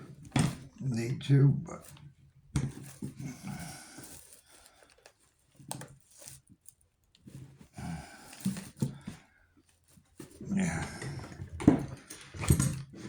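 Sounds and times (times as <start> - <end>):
rustling and scraping hand work: 0.0 - 13.0.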